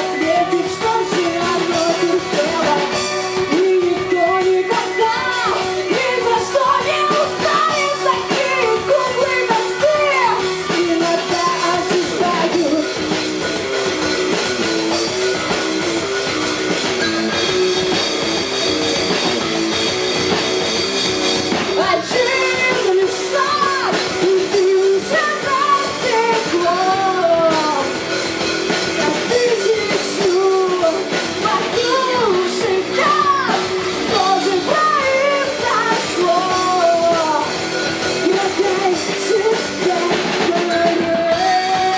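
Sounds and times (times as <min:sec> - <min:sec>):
lead singer singing: 0:00.0 - 0:13.6, 0:21.4 - 0:41.9
live rock band playing: 0:00.0 - 0:41.9.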